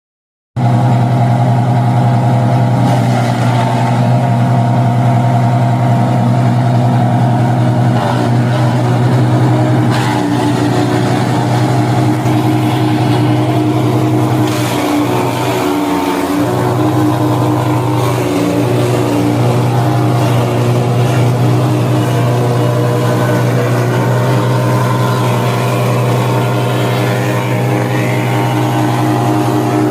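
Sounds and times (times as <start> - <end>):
wood chipper engine running: 0.6 - 29.9.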